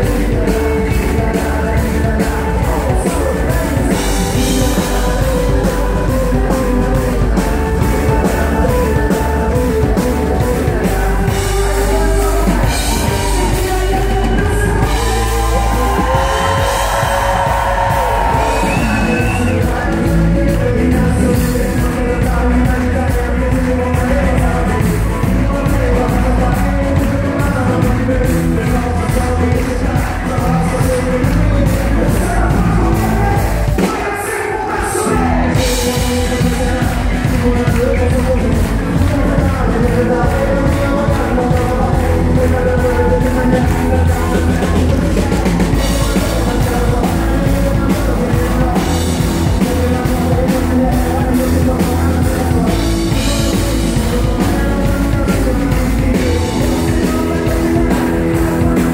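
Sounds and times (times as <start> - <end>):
country rock band playing: 0.0 - 58.9
drum kit beat: 0.0 - 58.9
electric and acoustic guitars: 0.0 - 58.9.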